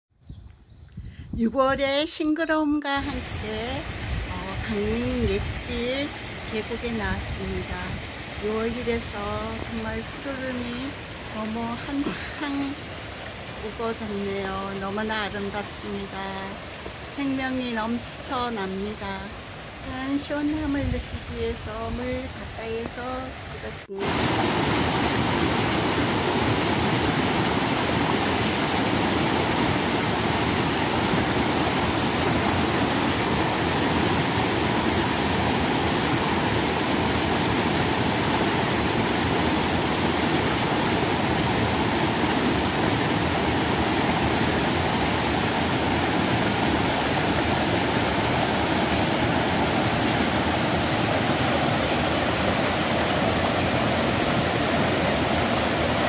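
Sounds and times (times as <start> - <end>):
water rushing over rocks: 3.0 - 56.0.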